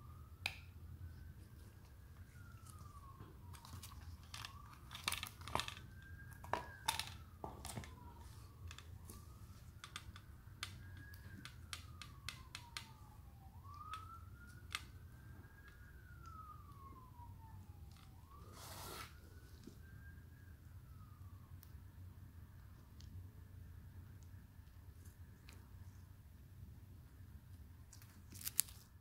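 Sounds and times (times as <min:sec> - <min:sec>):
distant siren wailing: 0:00.0 - 0:27.4.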